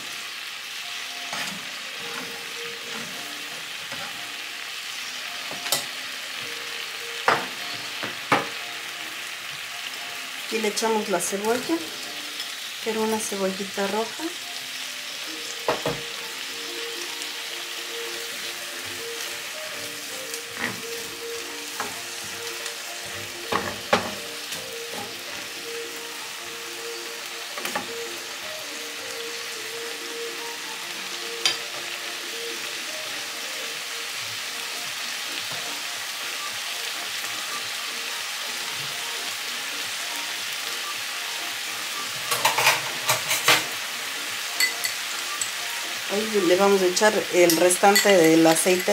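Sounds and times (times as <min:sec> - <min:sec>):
onion sizzling in oil: 0:00.0 - 0:48.9.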